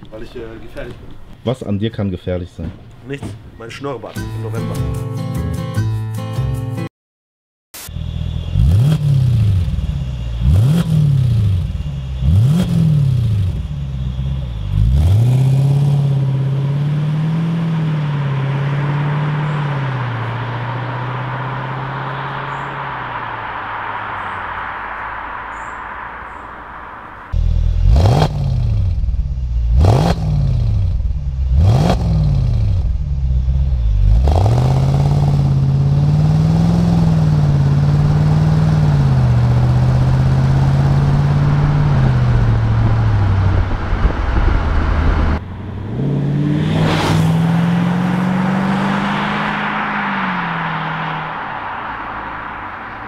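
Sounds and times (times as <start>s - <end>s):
car engine revving: 7.8s - 53.0s
car engine running while driving: 7.8s - 53.0s.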